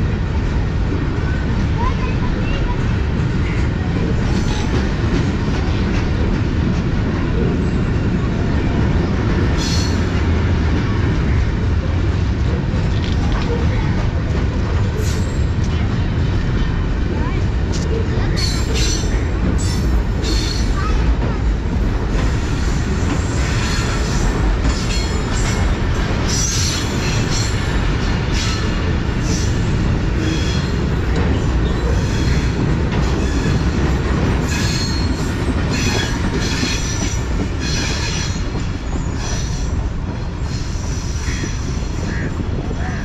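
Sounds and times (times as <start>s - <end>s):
wheel-on-rail noise: 0.0s - 43.0s.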